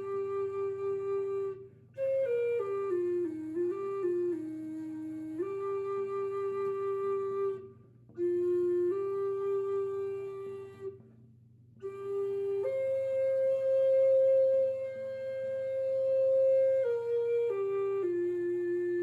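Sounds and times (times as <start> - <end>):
flute playing sustained notes: 0.0 - 11.0, 11.8 - 19.0.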